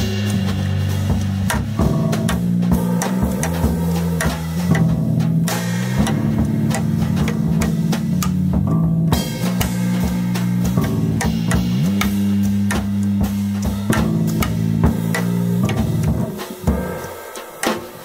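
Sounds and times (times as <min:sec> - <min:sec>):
electric bass: 0:00.0 - 0:17.1
drum kit and cymbals: 0:00.0 - 0:18.0.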